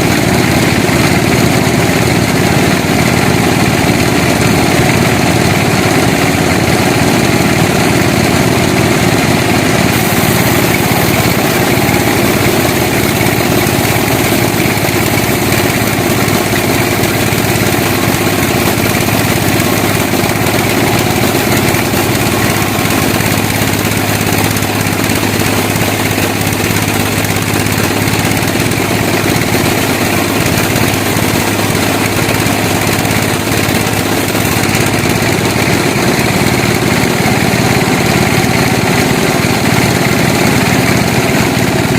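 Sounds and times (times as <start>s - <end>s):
sawmill machinery drone: 0.0s - 41.9s.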